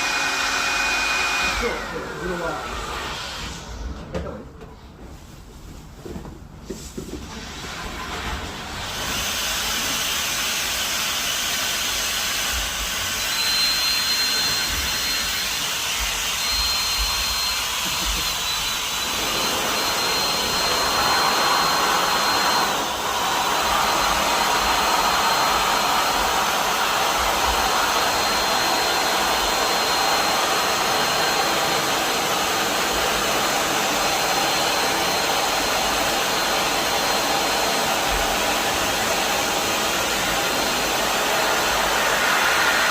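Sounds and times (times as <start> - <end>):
air blower rushing: 0.0 - 4.4, 6.7 - 42.9.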